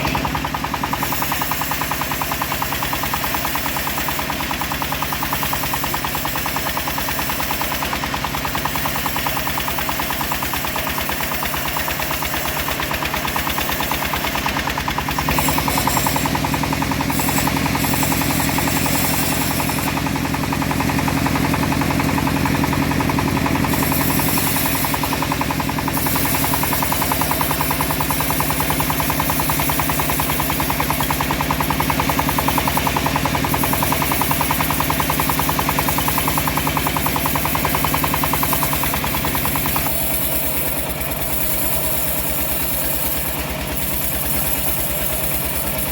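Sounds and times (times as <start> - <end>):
bandsaw mill engine running: 0.0 - 45.9.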